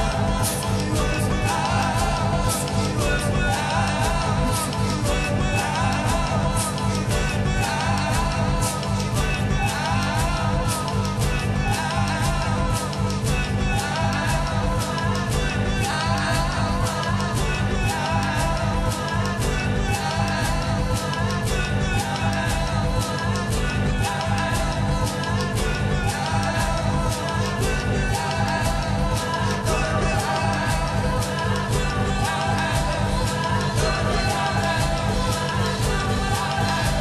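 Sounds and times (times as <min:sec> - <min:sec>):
electronic instruments: 0:00.0 - 0:37.0
fast percussive beat: 0:00.0 - 0:37.0
lead vocal singing: 0:00.0 - 0:37.0.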